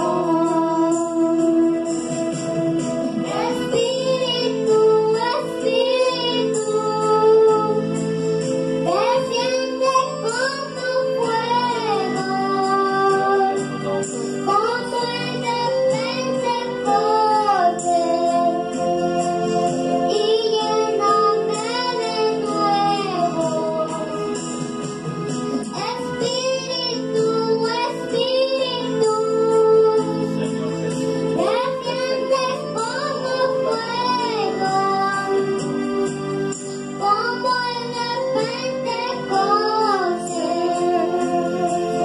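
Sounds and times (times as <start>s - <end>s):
girl singing into a microphone: 0.0s - 2.0s, 3.2s - 8.2s, 8.8s - 24.5s, 25.5s - 30.5s, 31.1s - 42.0s
backing track of sustained chords: 0.0s - 42.0s.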